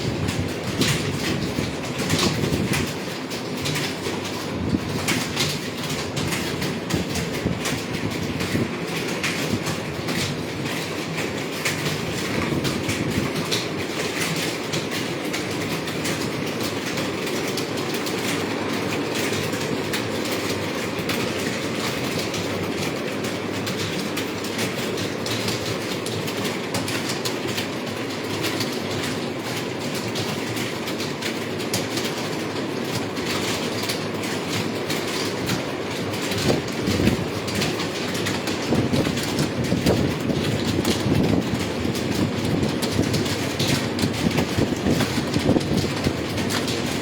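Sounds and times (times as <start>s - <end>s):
rapid keyboard typing: 0.0s - 47.0s.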